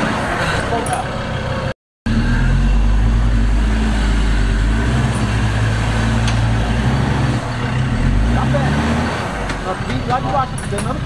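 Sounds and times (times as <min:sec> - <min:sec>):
off-road engine pulling under load: 0:00.0 - 0:11.0.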